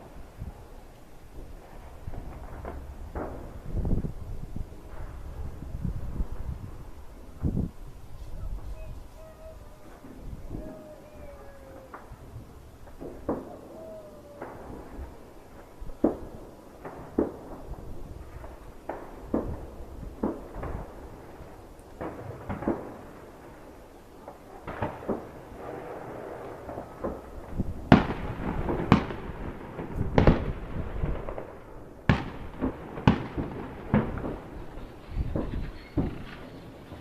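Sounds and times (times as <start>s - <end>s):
firecrackers banging: 1.3s - 7.8s, 8.4s - 37.0s.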